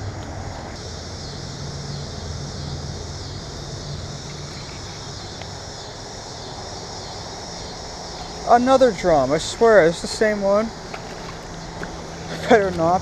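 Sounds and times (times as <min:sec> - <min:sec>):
distant engine hum: 0:00.0 - 0:13.0
high-pitched hiss: 0:00.6 - 0:13.0.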